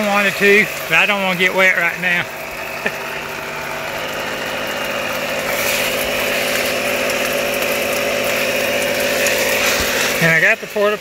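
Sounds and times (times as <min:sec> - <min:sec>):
air compressor humming: 0:00.0 - 0:11.0
water spraying on fabric: 0:00.0 - 0:11.0.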